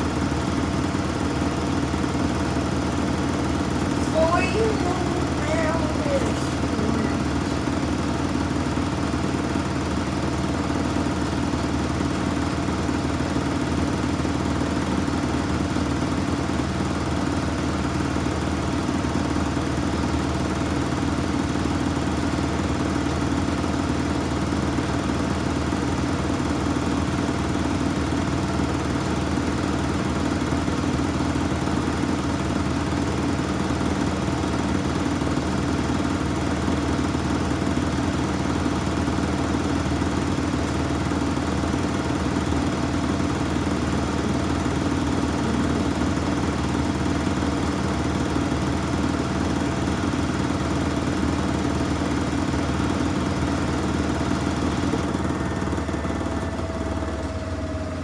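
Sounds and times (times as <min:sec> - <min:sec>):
washing machine motor hum: 0:00.0 - 0:20.7, 0:22.2 - 0:58.0.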